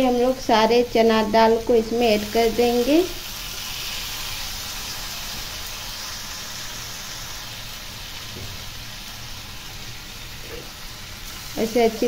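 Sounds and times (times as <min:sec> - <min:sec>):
lentils sizzling in hot oil: 0:00.0 - 0:12.0.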